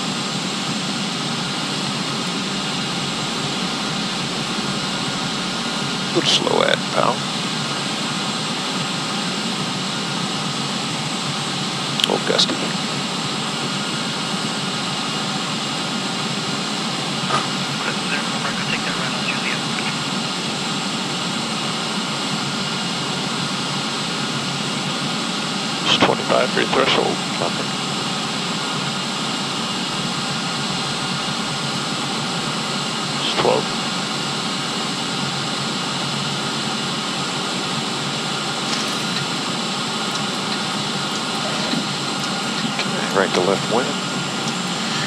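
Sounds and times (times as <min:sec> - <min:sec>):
turboprop engines droning: 0:00.0 - 0:45.0.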